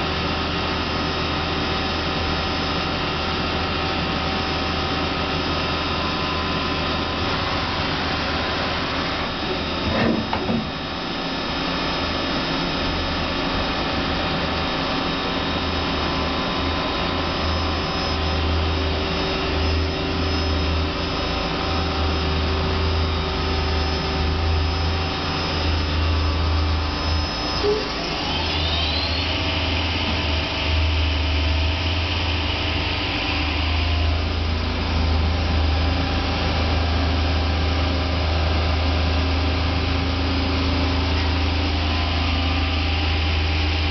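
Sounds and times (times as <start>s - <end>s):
machine hum with steady tones: 0.0s - 43.9s
machine whine: 0.0s - 43.9s.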